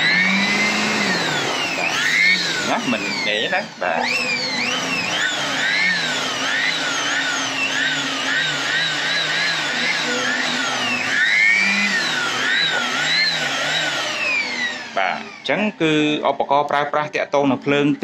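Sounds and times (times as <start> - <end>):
electric blower motor whine: 0.0 - 16.2.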